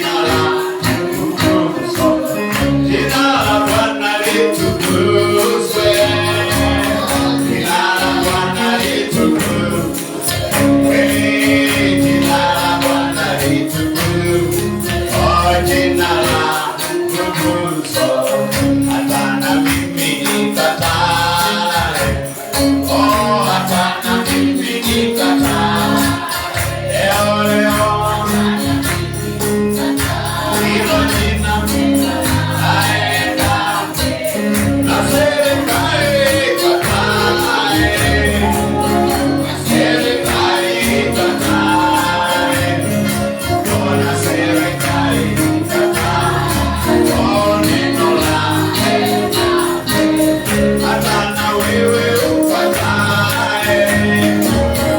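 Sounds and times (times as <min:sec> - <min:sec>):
tambourine and percussion beat: 0:00.0 - 0:54.9
worship team singing over band: 0:00.0 - 0:54.9.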